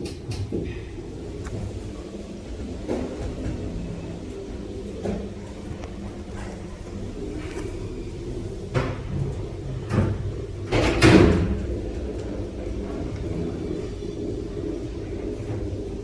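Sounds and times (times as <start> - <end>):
lift doors clunking: 0.0 - 16.0
steady low hum: 0.0 - 16.0.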